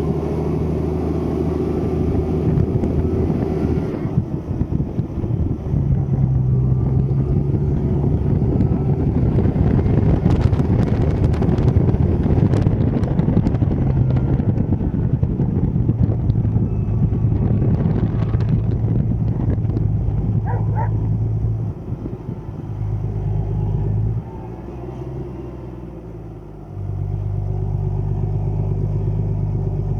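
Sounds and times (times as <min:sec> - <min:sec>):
tractor diesel engine droning: 0:00.0 - 0:29.9.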